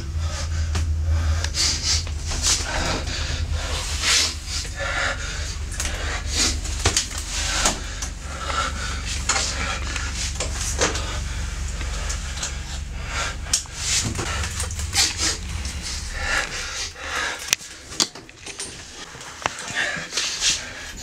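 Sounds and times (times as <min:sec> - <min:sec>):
breathy noises: 0:00.0 - 0:21.0
steady low hum: 0:00.0 - 0:21.0
rustling: 0:00.6 - 0:20.9.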